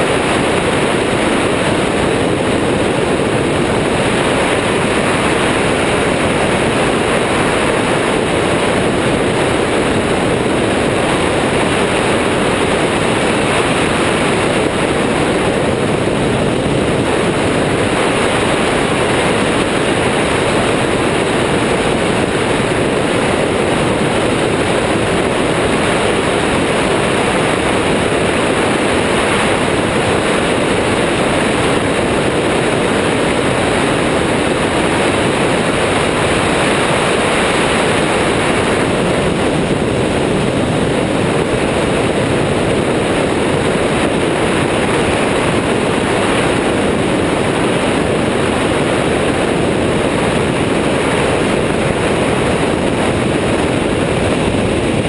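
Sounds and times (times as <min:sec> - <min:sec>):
engine and propeller drone: 0:00.0 - 0:55.0
wind rushing on microphone: 0:00.0 - 0:55.0.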